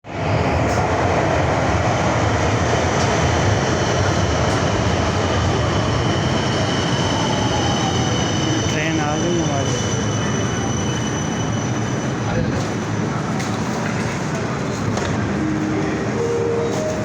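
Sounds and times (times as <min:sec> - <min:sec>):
train wheels on track: 0:00.0 - 0:17.0.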